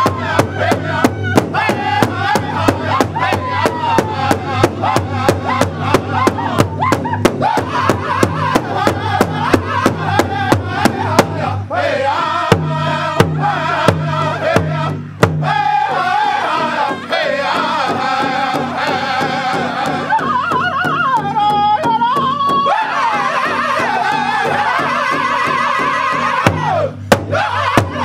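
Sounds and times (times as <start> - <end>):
group singing in unison: 0.0 - 28.0
high wavering vocal line: 0.0 - 28.0
large hide drum beating: 0.0 - 28.0.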